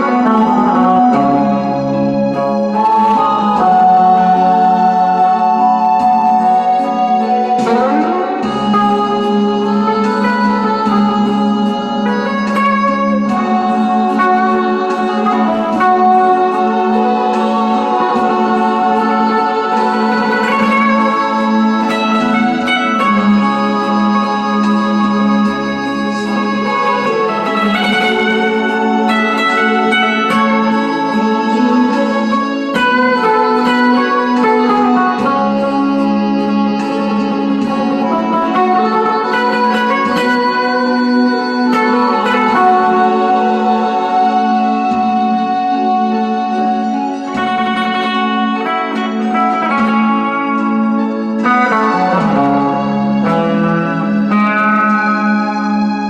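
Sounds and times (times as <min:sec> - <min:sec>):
guitar with effects melody: 0:00.0 - 0:56.0.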